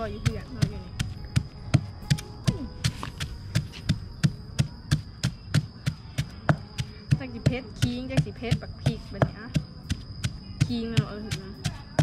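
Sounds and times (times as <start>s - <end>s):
wooden pestle pounding in mortar: 0.0s - 12.0s.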